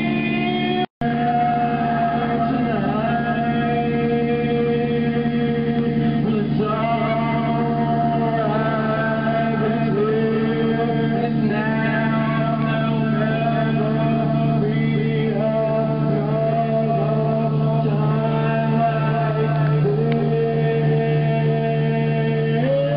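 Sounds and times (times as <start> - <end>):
low drone: 0.0 - 22.9
voice singing long gliding notes: 0.0 - 22.9.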